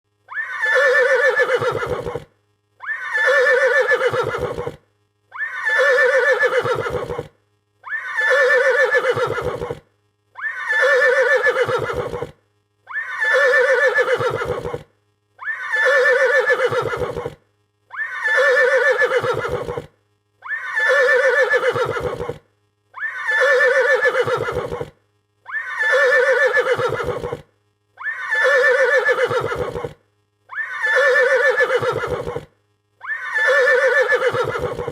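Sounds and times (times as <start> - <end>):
horse neighing: 0.3 - 4.8, 5.4 - 7.3, 7.9 - 9.8, 10.4 - 14.8, 15.4 - 22.4, 23.0 - 24.9, 25.5 - 27.4, 28.0 - 34.9.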